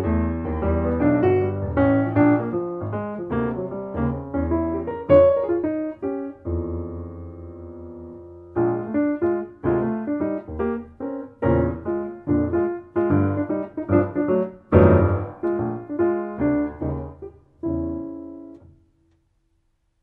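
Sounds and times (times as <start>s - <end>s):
jazz piano playing: 0.0s - 19.0s.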